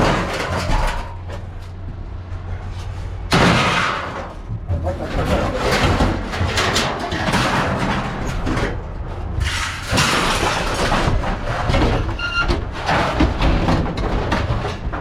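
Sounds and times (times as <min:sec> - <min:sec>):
scrap metal clattering and banging: 0:00.0 - 0:15.0.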